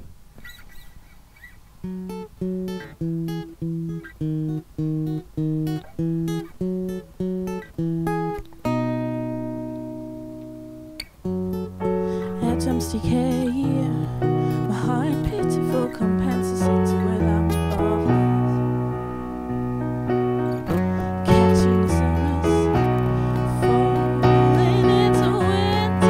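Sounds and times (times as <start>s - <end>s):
acoustic guitar picking: 0.0s - 26.0s.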